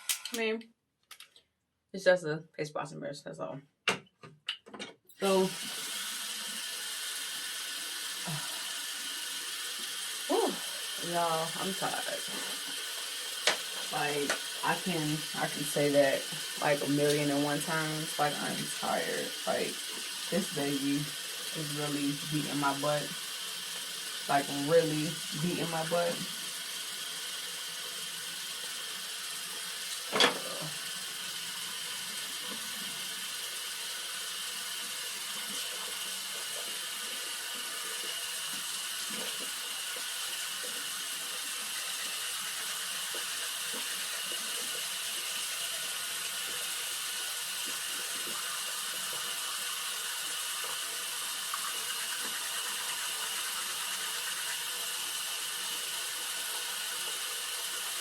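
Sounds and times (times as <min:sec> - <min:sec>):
tap water running into sink: 0:05.2 - 0:58.0.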